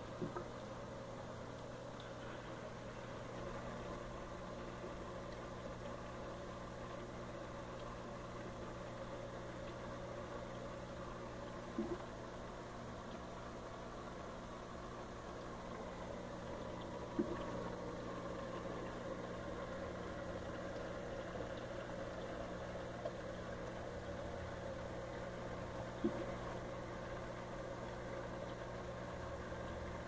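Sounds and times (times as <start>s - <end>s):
aquarium pump humming: 0.0s - 30.0s.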